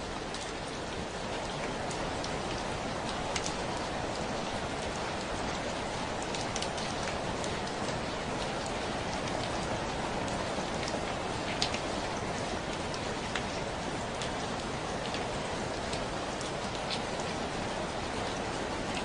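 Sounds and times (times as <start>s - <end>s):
steady rainfall hiss: 0.0s - 19.0s
raindrops ticking on hard surface: 0.1s - 19.0s.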